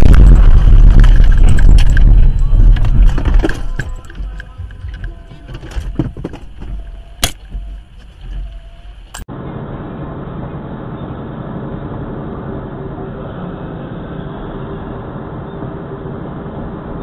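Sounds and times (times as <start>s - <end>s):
in-cab road and engine noise: 0.0s - 17.0s
low wind rumble: 0.0s - 17.0s.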